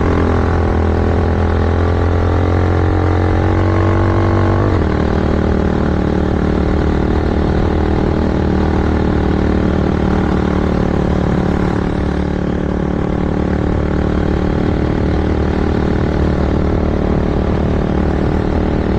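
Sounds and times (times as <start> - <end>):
quad engine running at low revs: 0.0 - 18.9.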